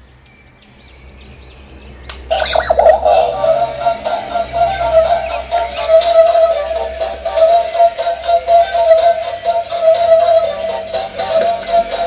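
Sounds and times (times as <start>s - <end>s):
toy speaker playing song with singing: 2.3s - 12.0s.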